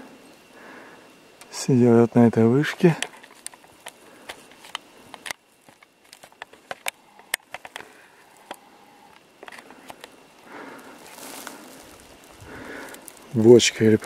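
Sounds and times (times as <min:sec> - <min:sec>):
dry twigs crackling underfoot: 0:02.6 - 0:14.0.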